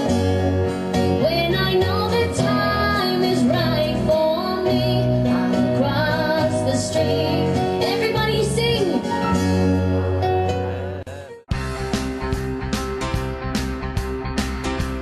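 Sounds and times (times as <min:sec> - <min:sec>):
instrumental backing track: 0:00.0 - 0:15.0.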